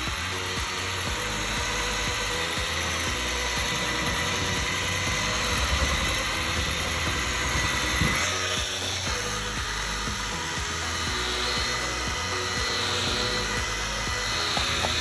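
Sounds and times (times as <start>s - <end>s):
power tool whining: 0.0s - 15.0s.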